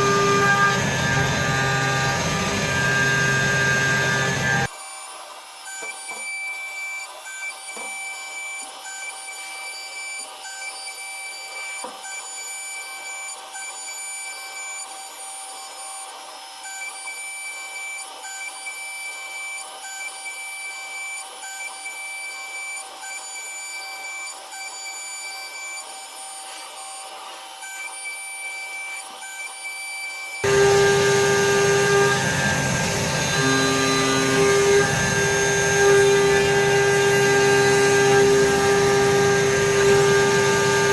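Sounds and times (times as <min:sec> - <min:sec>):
milling machine whine: 0:00.0 - 0:40.9.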